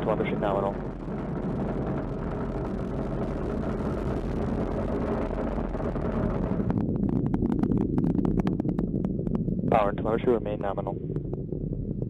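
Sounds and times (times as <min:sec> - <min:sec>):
crackle of sharp pops: 0:00.0 - 0:12.0
rocket engines rumbling: 0:00.0 - 0:12.0.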